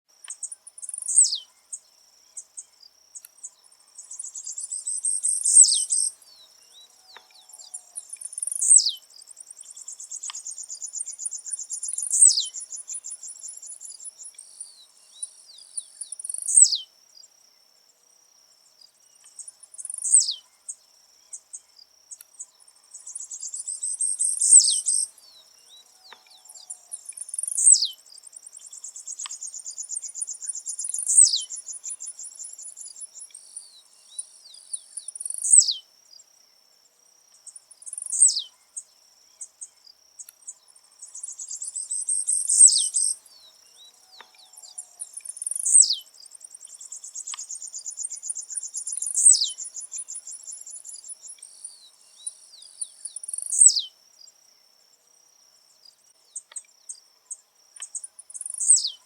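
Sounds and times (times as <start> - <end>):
bird singing buzzy song: 0.1 - 59.0.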